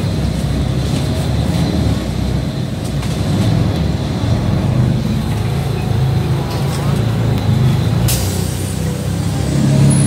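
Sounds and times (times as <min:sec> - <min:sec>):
bus engine rumbling: 0:00.0 - 0:10.0
road traffic: 0:00.0 - 0:10.0.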